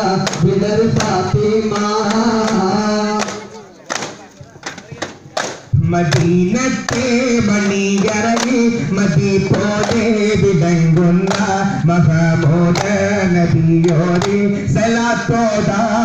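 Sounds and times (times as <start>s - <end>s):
man singing devotional song: 0.0s - 3.8s, 5.7s - 16.0s
frame drums in steady rhythm: 0.0s - 14.5s.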